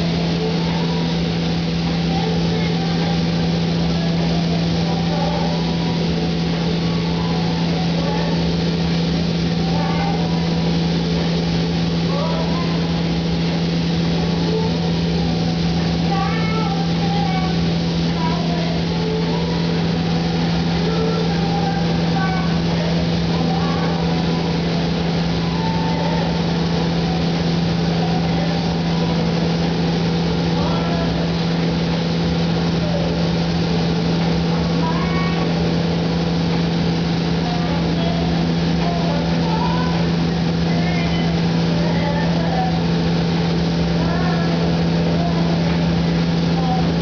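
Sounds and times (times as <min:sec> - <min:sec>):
spray booth hum and air rush: 0:00.0 - 0:47.0.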